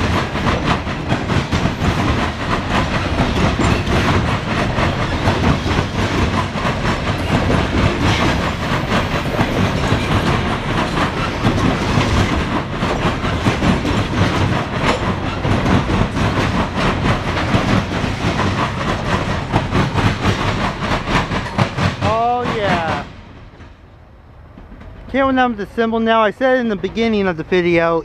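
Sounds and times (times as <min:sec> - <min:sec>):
freight train wheels clicking: 0:00.0 - 0:28.0.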